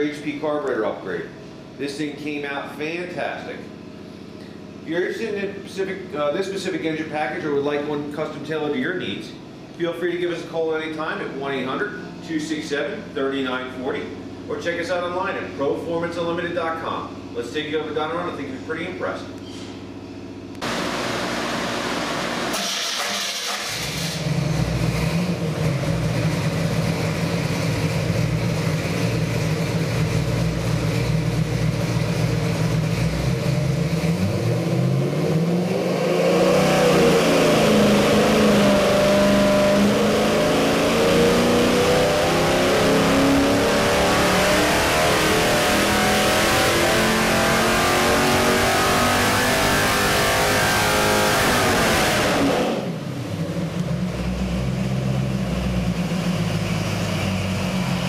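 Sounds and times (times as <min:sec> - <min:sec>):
engine running on a dyno: 0:00.0 - 0:58.0.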